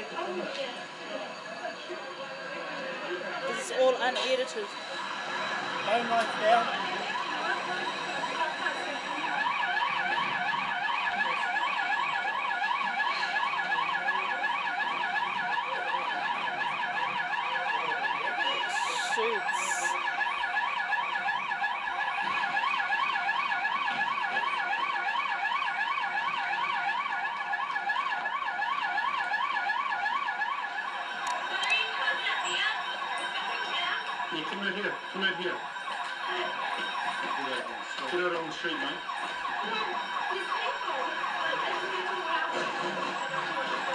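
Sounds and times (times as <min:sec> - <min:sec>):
electronic siren warbling: 0:00.1 - 0:43.9.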